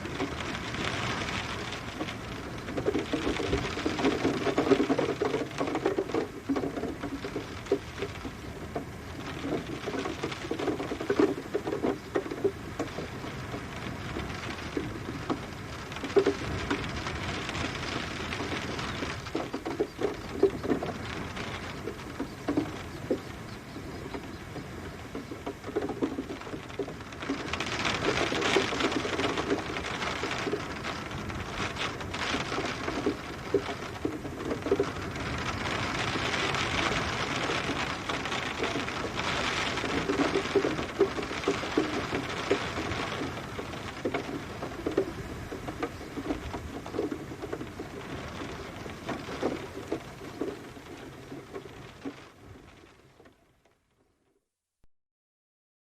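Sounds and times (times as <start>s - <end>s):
rain pattering on hard surface: 0.0s - 54.4s.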